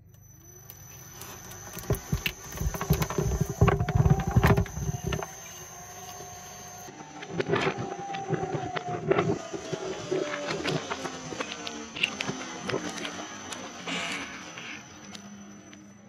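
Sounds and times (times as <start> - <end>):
shredder crunching and crackling: 0.0 - 15.4
shredder motor hum: 0.0 - 16.0.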